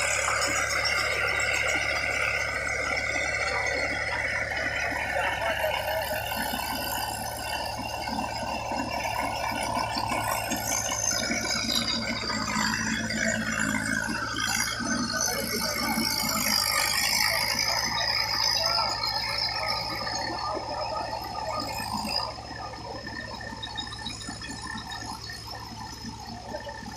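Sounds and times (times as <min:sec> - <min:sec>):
low machine hum: 0:00.0 - 0:26.9.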